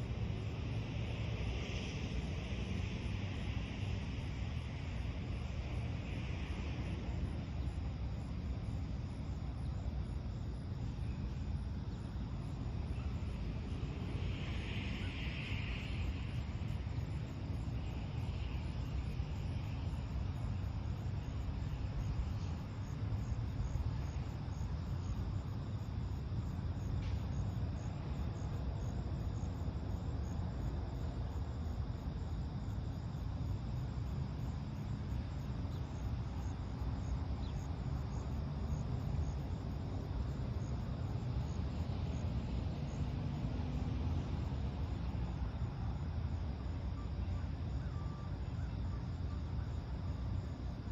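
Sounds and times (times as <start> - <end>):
crickets chirping: 0.0 - 50.9
low outdoor rumble: 0.0 - 50.9.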